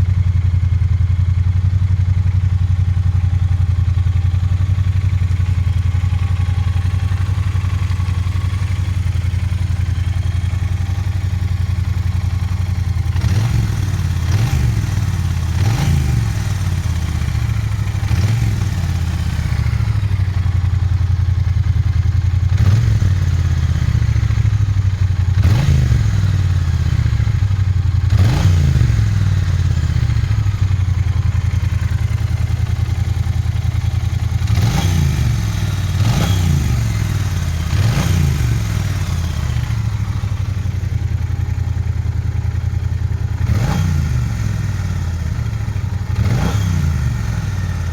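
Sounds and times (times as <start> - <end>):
motorcycle engine idling: 0.0 - 47.9
motorcycle engine revving: 0.0 - 47.9.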